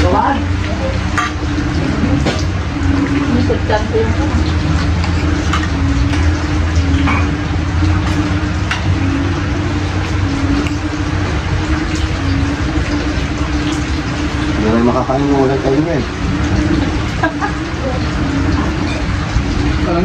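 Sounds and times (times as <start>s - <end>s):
steady rushing noise with hum: 0.0s - 20.0s.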